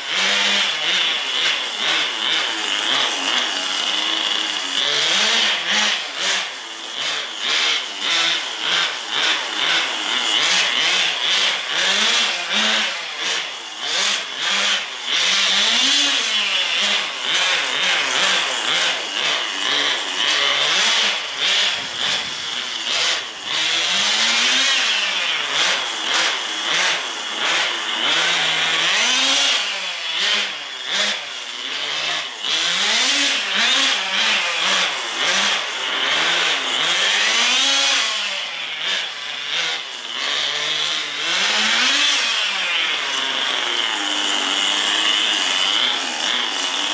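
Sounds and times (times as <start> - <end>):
small glow engine buzzing and revving: 0.0 - 46.9.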